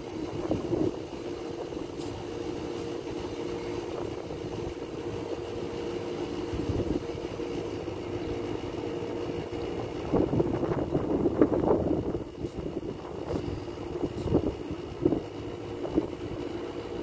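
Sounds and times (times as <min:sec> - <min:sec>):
air conditioner unit humming: 0:00.0 - 0:17.0.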